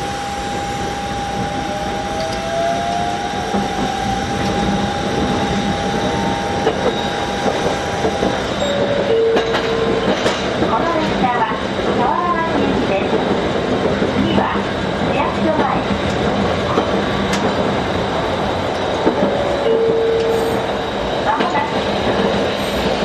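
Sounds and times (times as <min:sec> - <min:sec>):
tram running with high whine: 0:00.0 - 0:23.0.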